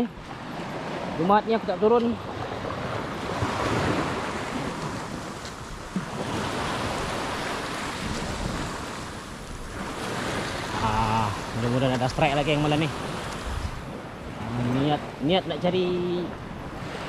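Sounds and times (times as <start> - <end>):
wind buffeting microphone: 0.0 - 15.2
sea surf washing on shore: 0.0 - 17.0.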